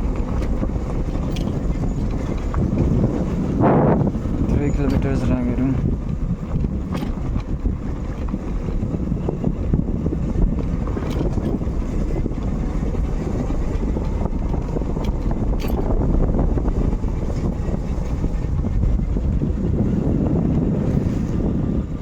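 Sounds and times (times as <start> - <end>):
motorcycle engine rumble: 0.0 - 22.0
wind buffeting microphone: 0.0 - 22.0.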